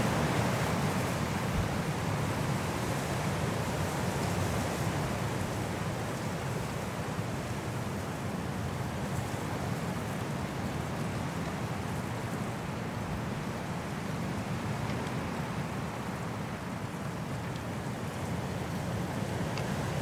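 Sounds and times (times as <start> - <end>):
high wind through trees: 0.0 - 20.0.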